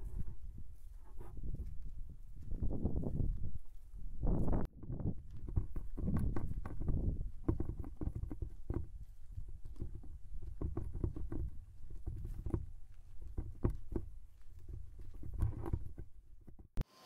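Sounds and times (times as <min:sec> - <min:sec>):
wind rumble on microphone: 0:00.0 - 0:16.8.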